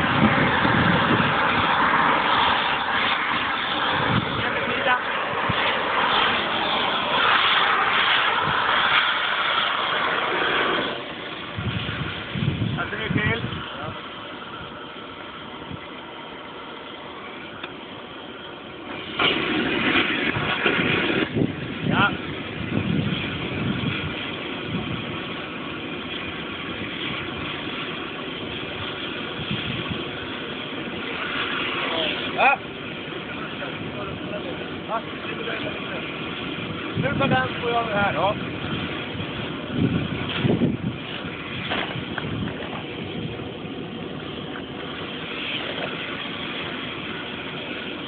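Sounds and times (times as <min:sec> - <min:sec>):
machinery hissing: 0:00.0 - 0:48.0
welding equipment running: 0:00.0 - 0:48.0.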